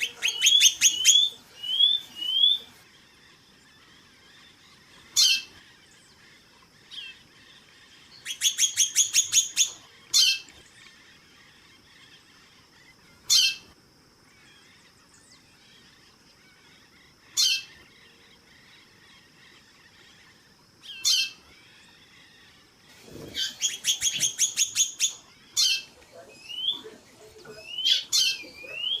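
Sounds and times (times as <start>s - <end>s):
bird calling: 0.0s - 29.0s.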